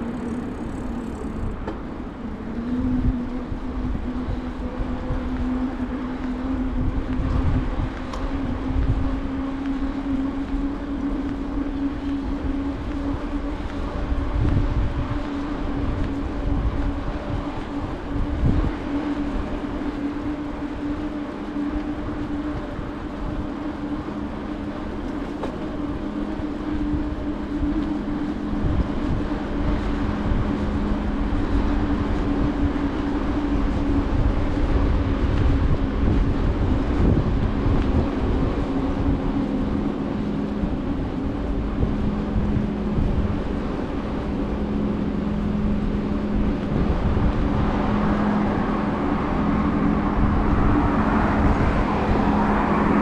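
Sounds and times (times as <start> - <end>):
bicycle tyre hum on pavement: 0.0 - 53.0
wind buffeting microphone: 0.0 - 53.0.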